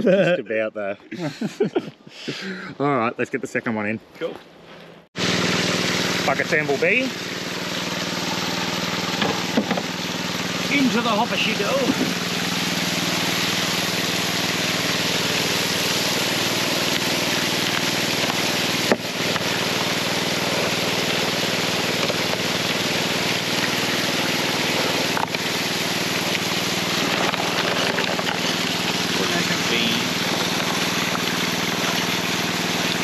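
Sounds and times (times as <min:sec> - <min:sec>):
water pump engine running: 0:04.7 - 0:33.0
water jetting: 0:05.2 - 0:33.0.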